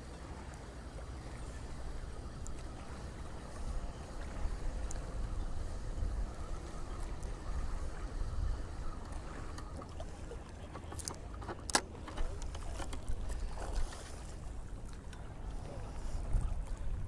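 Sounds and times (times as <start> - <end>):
water lapping at shore: 0.0 - 17.0
wind rumbling on microphone: 1.5 - 10.3, 12.1 - 17.0.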